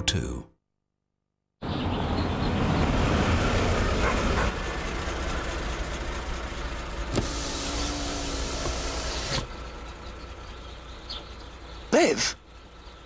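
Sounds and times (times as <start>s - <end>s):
car engines idling: 1.6s - 13.0s.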